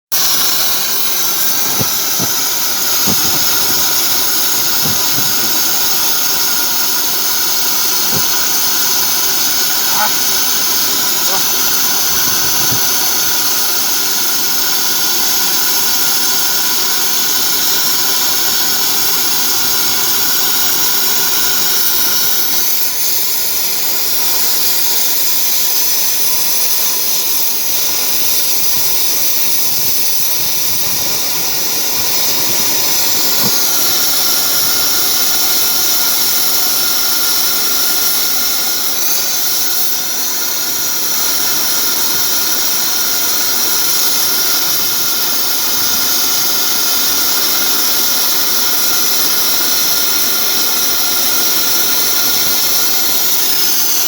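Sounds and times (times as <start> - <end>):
high-pitched machine whines: 0.1 - 54.0
industrial machinery hiss: 0.1 - 54.0.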